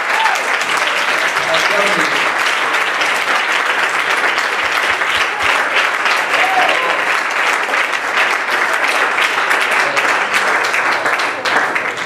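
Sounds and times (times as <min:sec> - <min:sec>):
congregation applauding: 0:00.0 - 0:12.0.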